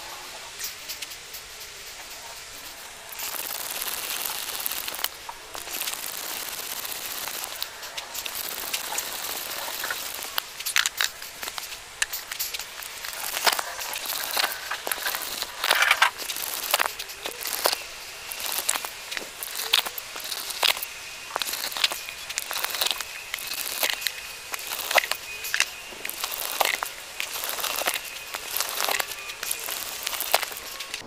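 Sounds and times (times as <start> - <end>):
auger bit rasping through wood: 3.1 - 31.0.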